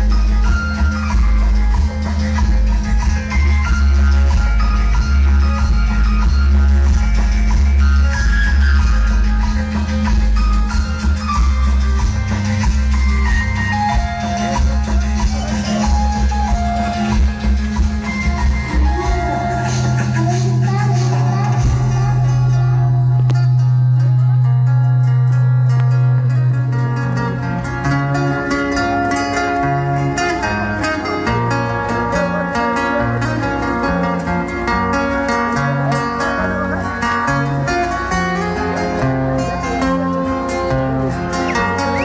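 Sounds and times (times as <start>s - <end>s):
booming bass: 0.0s - 42.0s
latin dance music: 0.0s - 42.0s.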